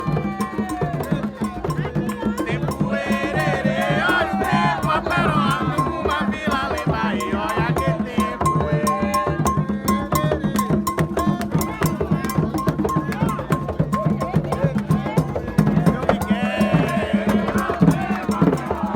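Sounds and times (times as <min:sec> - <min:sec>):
hand drums beaten fast: 0:00.0 - 0:18.9
voices singing: 0:00.0 - 0:18.9.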